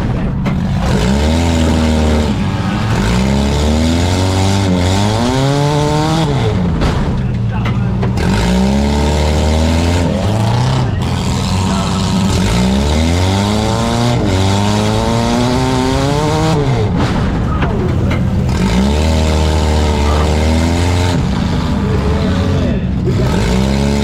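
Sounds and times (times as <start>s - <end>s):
car engines revving hard: 0.0s - 24.0s
low engine drone: 0.0s - 24.0s.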